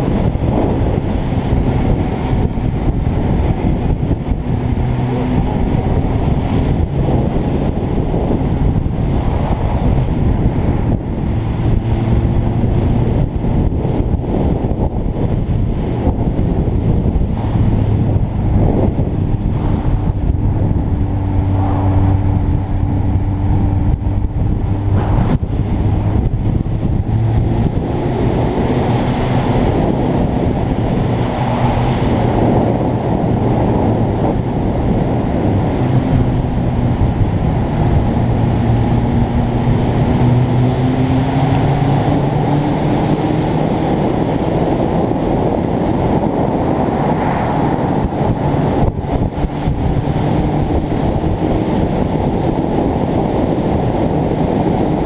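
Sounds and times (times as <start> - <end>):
motorcycle engine cruising: 0.0 - 55.0
wind noise on microphone: 0.0 - 55.0.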